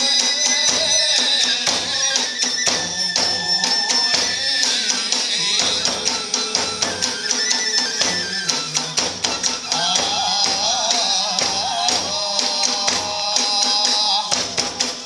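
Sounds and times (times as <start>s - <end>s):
bamboo flute melody: 0.0s - 15.0s
drums in fast rhythm: 0.0s - 15.0s
ringing hand cymbals: 0.0s - 15.0s.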